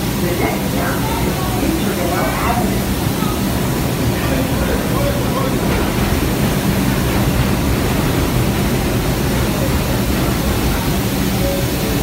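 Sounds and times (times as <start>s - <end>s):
subway train rushing noise: 0.0s - 12.0s.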